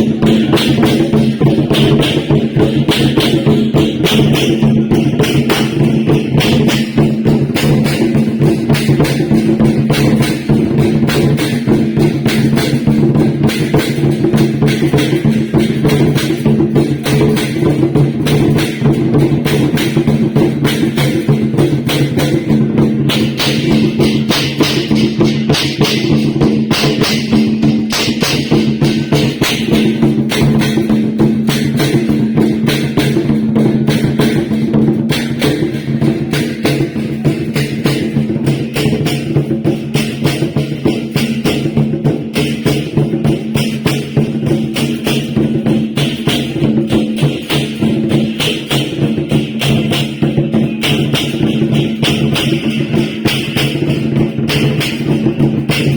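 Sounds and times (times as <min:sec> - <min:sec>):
rapid drum and percussion: 0:00.0 - 0:55.9.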